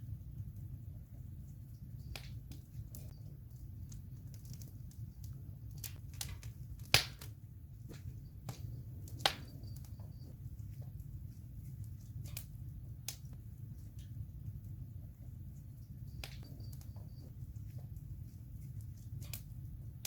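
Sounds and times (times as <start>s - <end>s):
campfire flames rumbling: 0.0s - 20.0s
fire crackling and popping: 0.0s - 20.0s.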